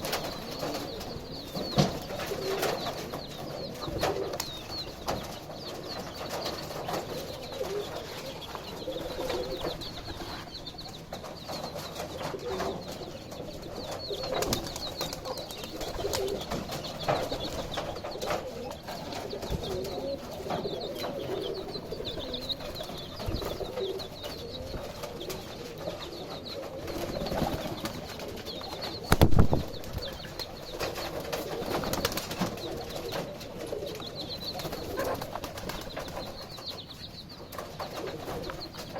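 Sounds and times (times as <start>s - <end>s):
chicks cheeping: 0.0s - 38.9s
hen clucking: 0.0s - 38.9s.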